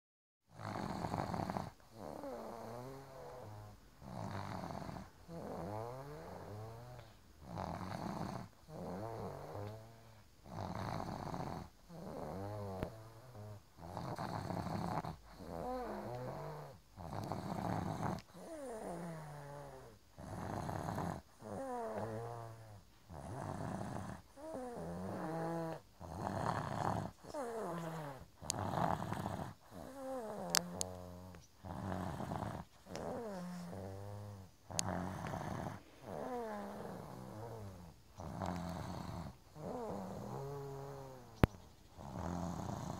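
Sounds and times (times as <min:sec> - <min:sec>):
person snoring: 0:00.6 - 0:41.4, 0:42.0 - 0:42.9.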